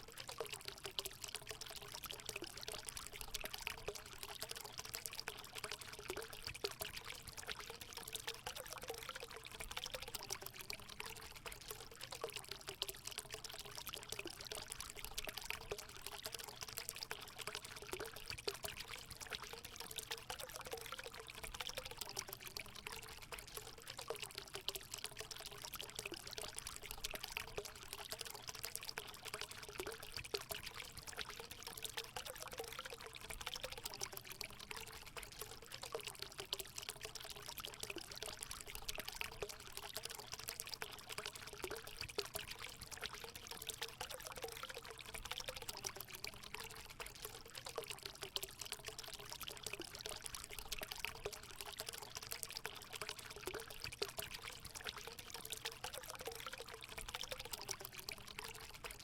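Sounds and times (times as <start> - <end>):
water pouring into pool: 0.0 - 59.0.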